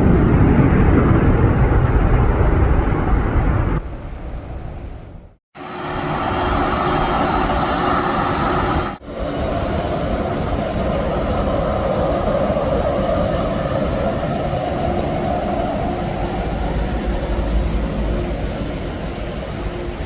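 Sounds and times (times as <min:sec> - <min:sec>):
faint steady tones: 0:00.0 - 0:20.0
jet engines roaring: 0:00.0 - 0:20.0.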